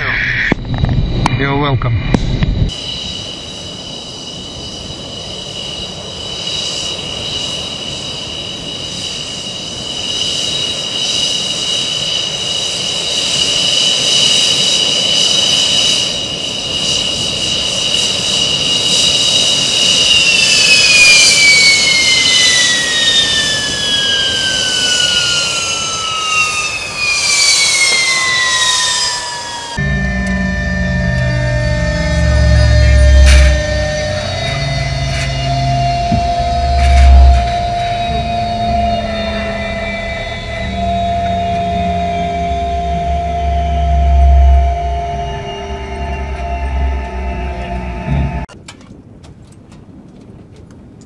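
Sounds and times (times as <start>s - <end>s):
jet engines whining: 0.0s - 48.6s.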